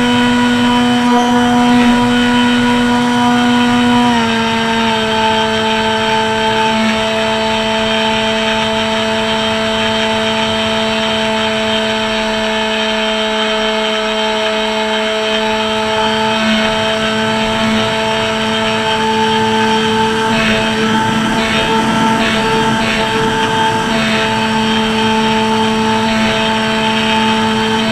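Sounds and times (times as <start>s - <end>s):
model plane motor and propeller hum: 0.0s - 27.9s.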